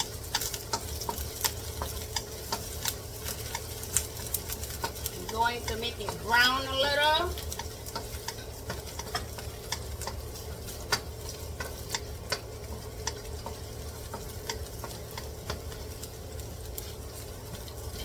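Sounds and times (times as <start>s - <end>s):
garlic sizzling in oil: 0.0s - 18.0s
utensil clicking against pan: 0.0s - 18.0s.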